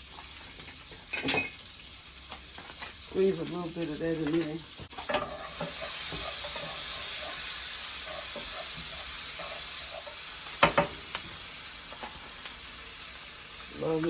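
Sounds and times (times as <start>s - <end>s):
vegetables sizzling in a skillet: 0.0s - 14.0s.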